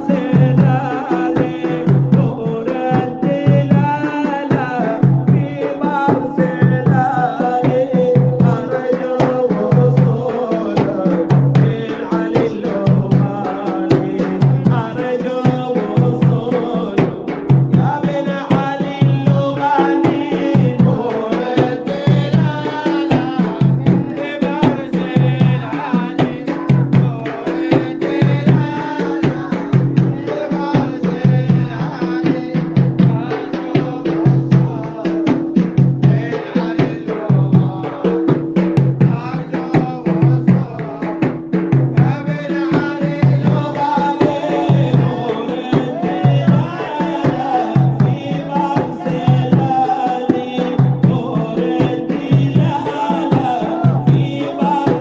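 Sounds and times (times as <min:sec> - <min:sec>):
hand drums beating: 0:00.0 - 0:55.0
voices singing a chant: 0:00.0 - 0:55.0.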